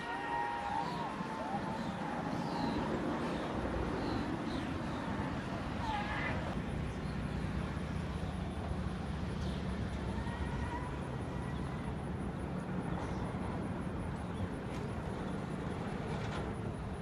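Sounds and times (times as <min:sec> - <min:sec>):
distant roller coaster rumble: 0:00.0 - 0:17.0
outdoor park ambience: 0:00.0 - 0:17.0.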